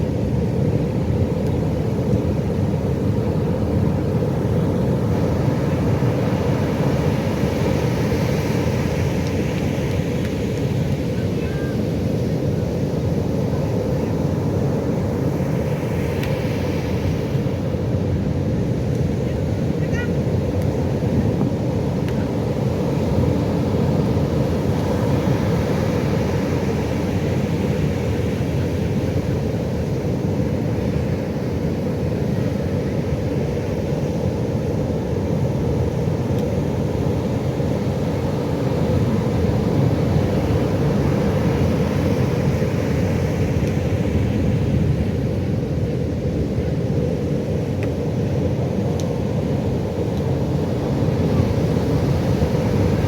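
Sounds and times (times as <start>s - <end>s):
waves breaking: 0.0s - 53.0s.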